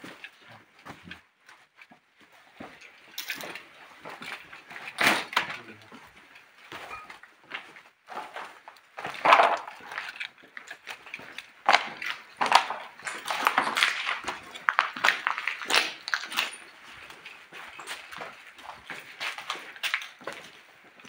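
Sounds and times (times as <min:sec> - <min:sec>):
footsteps knocking and scuffing: 0:00.0 - 0:21.0.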